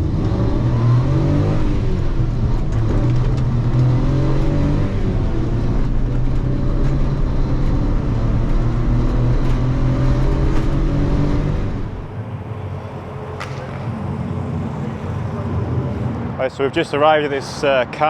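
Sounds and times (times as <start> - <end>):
small car engine running: 0.0 - 16.4.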